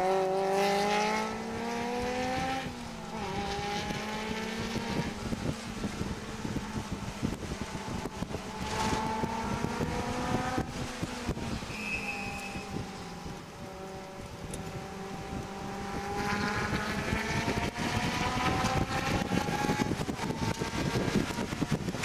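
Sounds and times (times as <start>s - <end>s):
car engine accelerating: 0.0s - 22.0s
wind and road noise: 0.0s - 22.0s.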